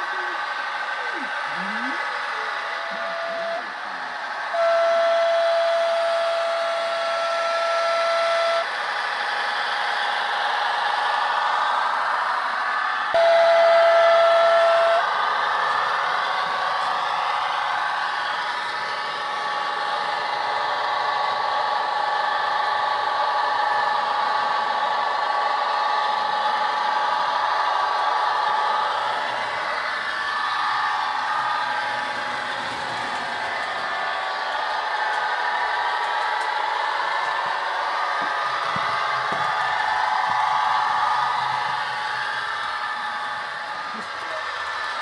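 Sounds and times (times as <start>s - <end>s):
model train electronic horn: 0.0s - 45.0s
model train running on track: 0.0s - 45.0s.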